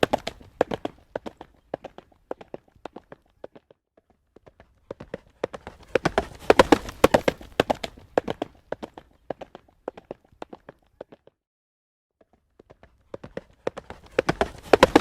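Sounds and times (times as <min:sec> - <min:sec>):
horse hooves clip-clopping on road: 0:00.0 - 0:03.6, 0:04.4 - 0:11.2, 0:12.8 - 0:15.0.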